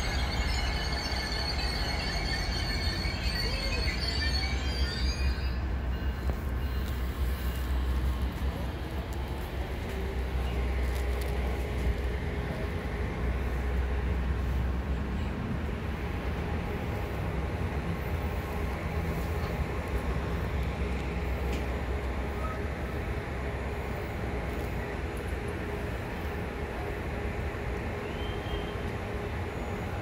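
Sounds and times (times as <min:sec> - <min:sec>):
high train squeal: 0:00.0 - 0:08.9, 0:10.0 - 0:30.0
low train rumble: 0:00.0 - 0:30.0.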